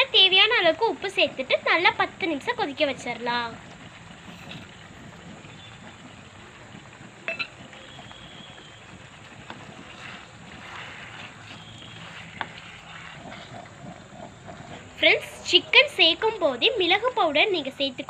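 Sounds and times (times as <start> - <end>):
chicken sizzling in a pan: 0.2 - 17.2
wooden spatula stirring: 2.3 - 17.0.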